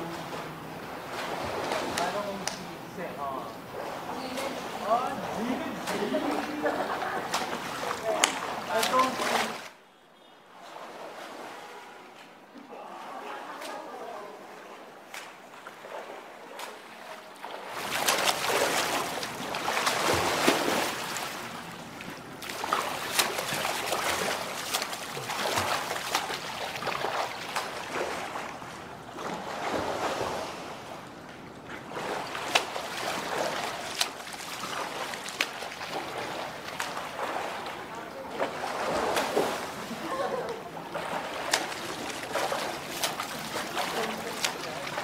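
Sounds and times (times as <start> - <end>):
swimmer splashing water: 0.0 - 9.8, 10.5 - 45.0.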